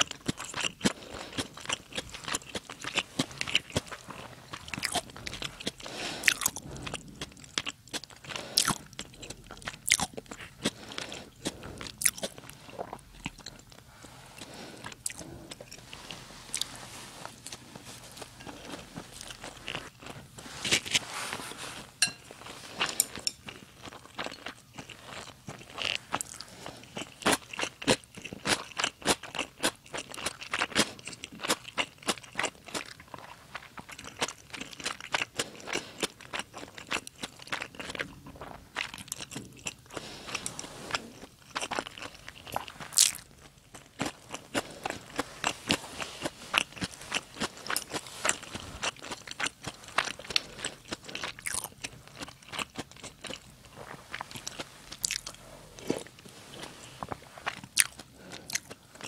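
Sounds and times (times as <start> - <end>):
chewing with crisp crunches: 0.0 - 59.0.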